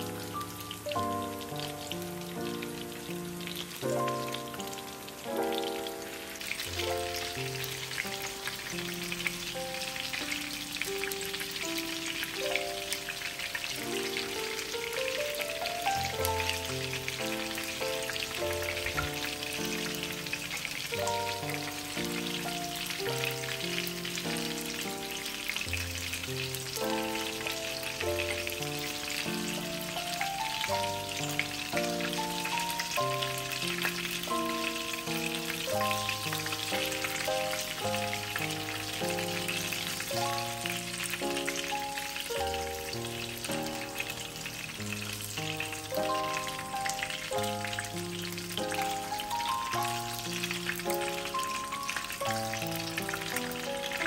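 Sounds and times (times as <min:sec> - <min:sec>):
background music melody: 0:00.0 - 0:54.0
patties sizzling in oil: 0:00.0 - 0:54.0.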